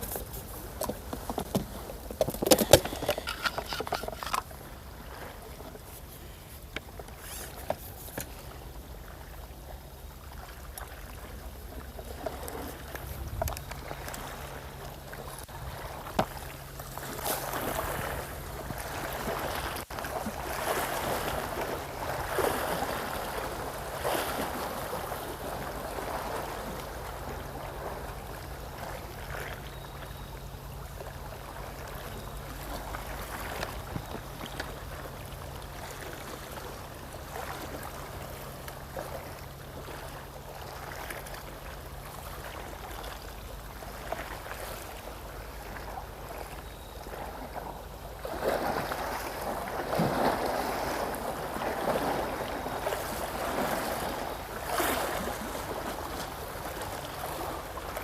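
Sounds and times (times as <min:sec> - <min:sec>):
steady low hum: 0:00.0 - 0:58.0
waves lapping on shore: 0:00.0 - 0:58.0.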